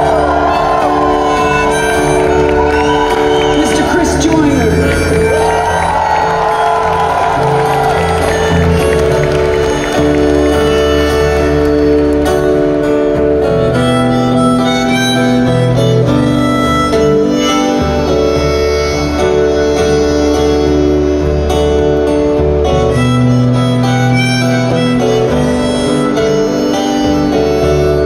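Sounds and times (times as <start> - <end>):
guitar: 0.0 - 28.0
harmonica long notes: 0.0 - 28.0
keyboard: 0.0 - 28.0.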